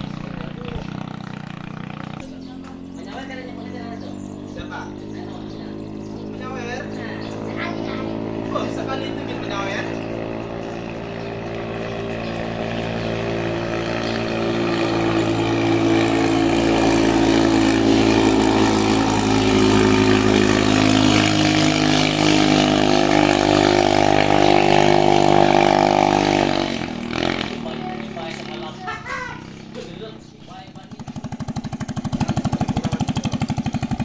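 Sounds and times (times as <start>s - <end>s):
racing boat engine at full revs: 0.0s - 34.0s.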